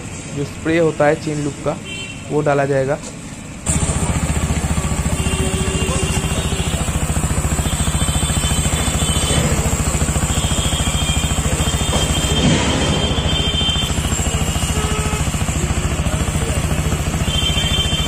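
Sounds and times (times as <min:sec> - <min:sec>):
motorcycle engine idling: 0:03.3 - 0:18.0.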